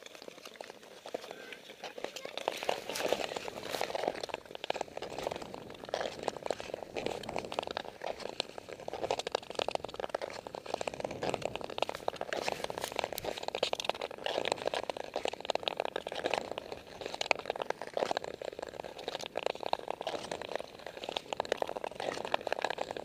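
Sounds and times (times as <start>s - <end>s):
ice skates scraping over ice: 0.0s - 23.0s.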